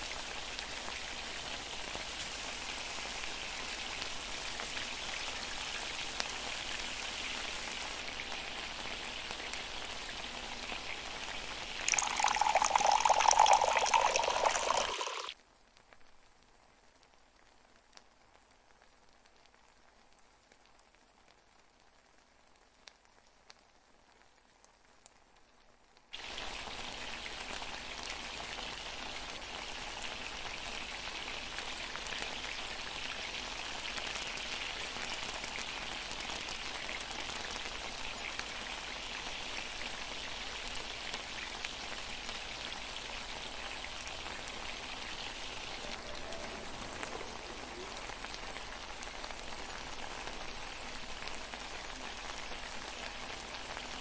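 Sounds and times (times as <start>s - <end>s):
liquid boiling in a pan: 0.0s - 54.0s.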